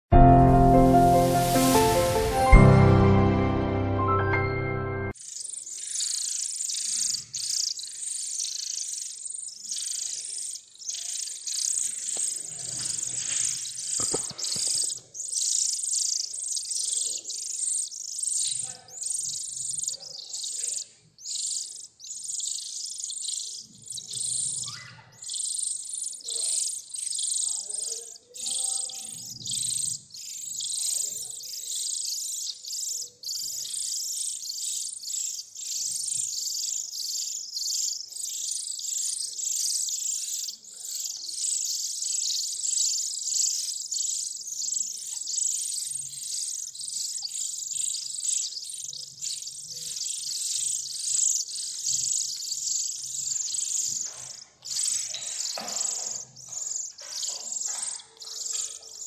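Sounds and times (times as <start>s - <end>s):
nestling birds begging chirps: 0.4s - 3.5s, 4.2s - 59.0s.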